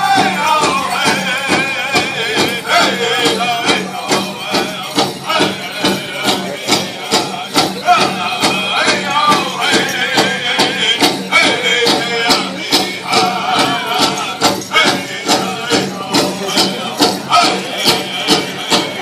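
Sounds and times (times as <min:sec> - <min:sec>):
people singing: 0:00.0 - 0:19.0
steady drumbeat: 0:00.0 - 0:19.0.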